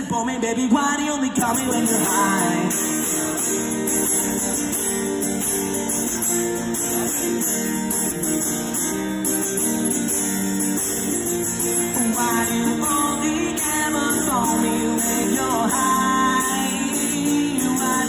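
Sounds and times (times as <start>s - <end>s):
acoustic guitar strumming: 1.4s - 18.0s.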